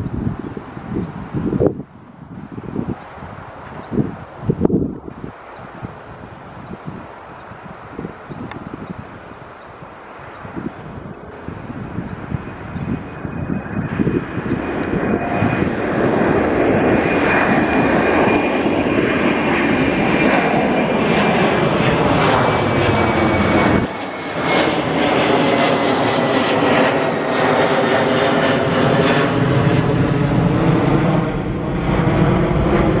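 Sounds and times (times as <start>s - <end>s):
jet airliner roaring overhead: 0.0s - 33.0s.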